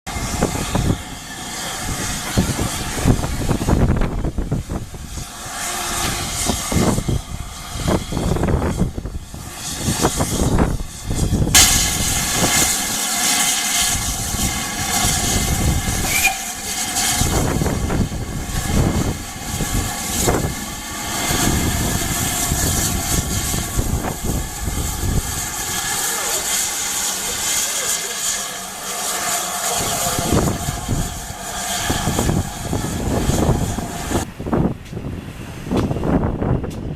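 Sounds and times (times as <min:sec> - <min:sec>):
steam locomotive hissing: 0:00.1 - 0:34.6
low rumble: 0:00.1 - 0:36.9.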